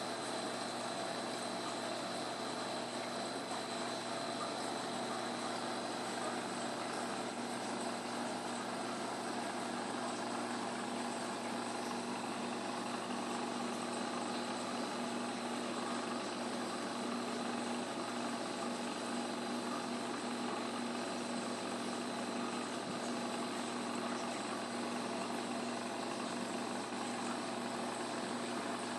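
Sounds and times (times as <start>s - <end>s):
aquarium pumps humming: 0.0s - 28.9s.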